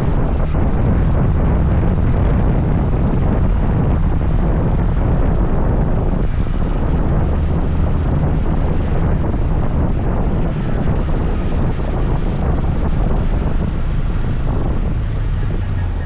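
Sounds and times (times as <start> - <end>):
scooter engine drone: 0.0 - 16.0
wind on microphone: 0.0 - 16.0.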